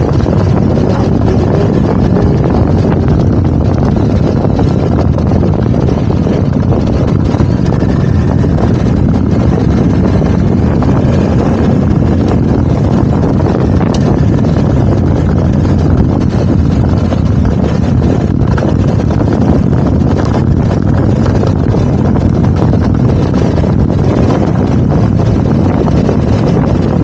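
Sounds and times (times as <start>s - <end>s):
motorcycle engine cruising: 0.0s - 27.0s
wind rush on microphone: 0.0s - 27.0s.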